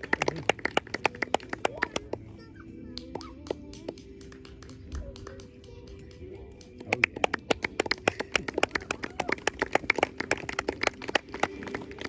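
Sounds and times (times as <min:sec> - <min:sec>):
faint music: 0:00.0 - 0:12.0
people clapping: 0:00.0 - 0:12.0.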